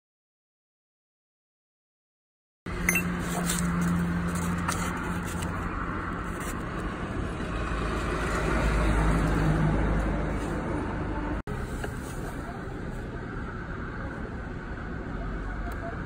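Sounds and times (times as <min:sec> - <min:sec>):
vehicle engine running: 0:02.7 - 0:16.0.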